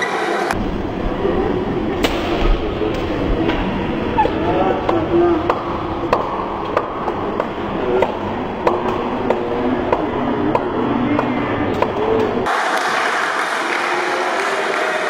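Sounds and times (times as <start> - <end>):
hall noise: 0.0 - 15.0.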